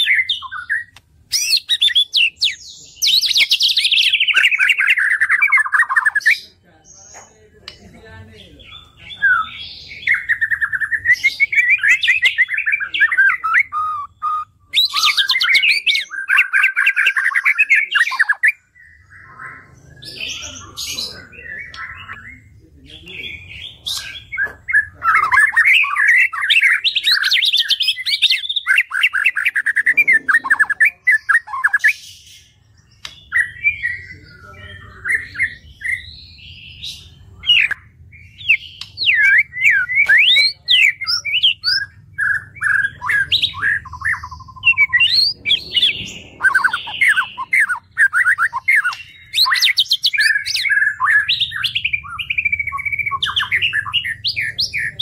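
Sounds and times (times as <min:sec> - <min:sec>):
songbird whistling and trilling: 0:00.0 - 0:06.4, 0:08.7 - 0:22.5, 0:23.1 - 0:55.0.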